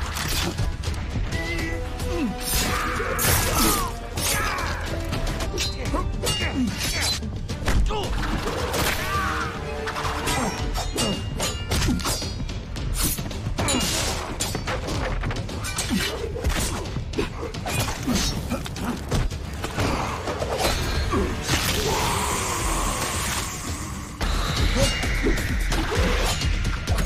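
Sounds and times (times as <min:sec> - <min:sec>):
music: 0:00.0 - 0:27.0.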